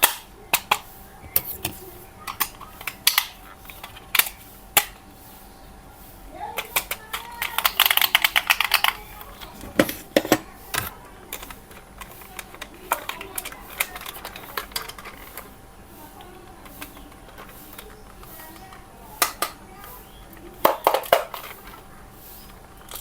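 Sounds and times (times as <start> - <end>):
plastic toys clicking and tapping: 0.0 - 5.2, 6.5 - 23.0.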